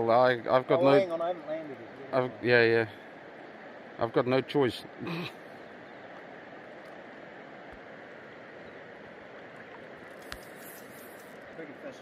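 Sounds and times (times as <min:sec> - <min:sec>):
river water running over stones: 0:00.0 - 0:12.0.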